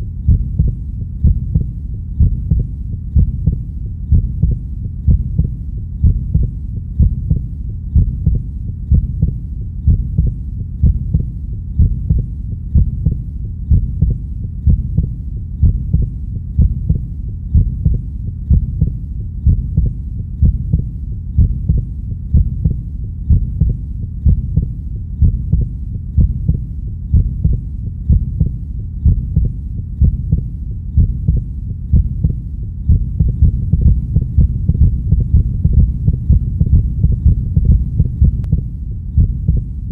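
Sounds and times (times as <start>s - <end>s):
heartbeat thuds: 0.0s - 39.9s
steady low hum: 0.0s - 39.9s.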